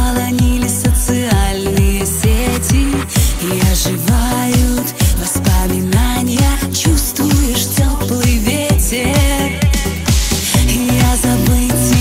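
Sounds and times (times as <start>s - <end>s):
kick drum: 0.0s - 12.0s.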